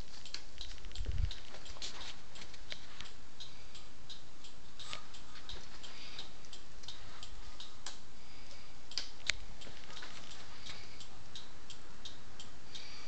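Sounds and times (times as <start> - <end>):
turn-signal relay clicking: 0.0 - 13.0.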